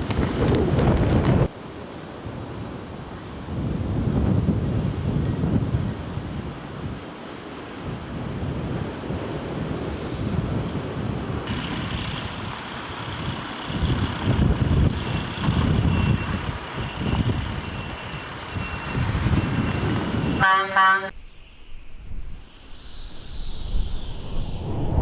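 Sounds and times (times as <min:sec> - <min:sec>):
wind gusting against microphone: 0:00.0 - 0:20.6, 0:21.7 - 0:25.0
traffic rumble: 0:00.0 - 0:21.2.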